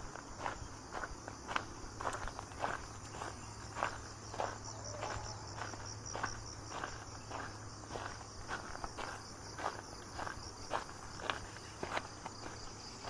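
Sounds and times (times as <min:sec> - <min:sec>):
crickets chirping: 0:00.0 - 0:13.0
footsteps walking: 0:00.0 - 0:13.0.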